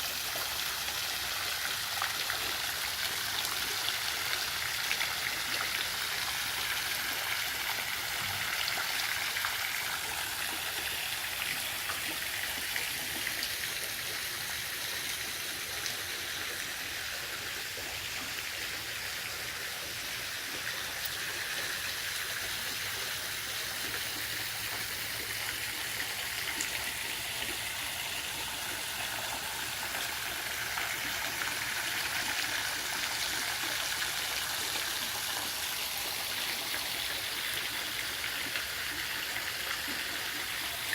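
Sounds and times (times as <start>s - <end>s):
waterfall splashing into pool: 0.0s - 40.9s.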